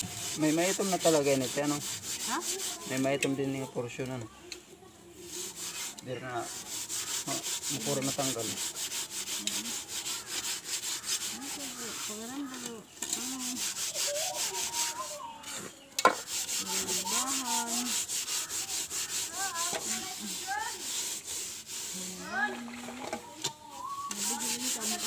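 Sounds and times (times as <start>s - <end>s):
scrubbing metal pot with sand: 0.0s - 4.2s, 5.1s - 25.0s.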